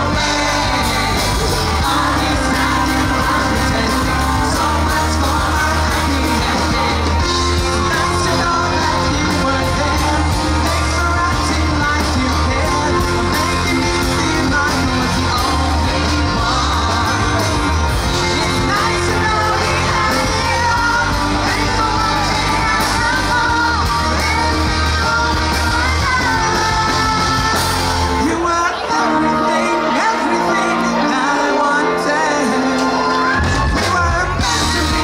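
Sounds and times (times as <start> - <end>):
bass guitar: 0.0 - 35.0
electric guitar: 0.0 - 35.0
live rock band playing: 0.0 - 35.0
man singing into a microphone: 0.0 - 35.0.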